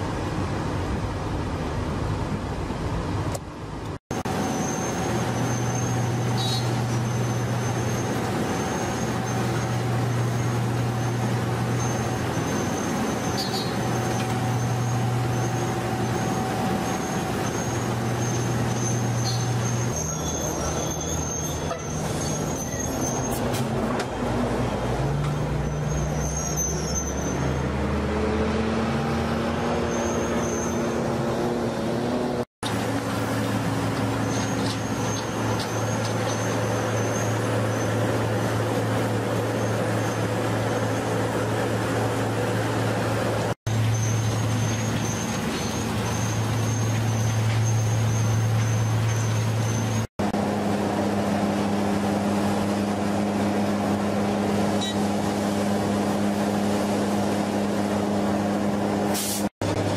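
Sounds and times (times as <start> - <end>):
bus passing: 0.0 - 59.9
heavy diesel machinery engines: 0.0 - 59.9.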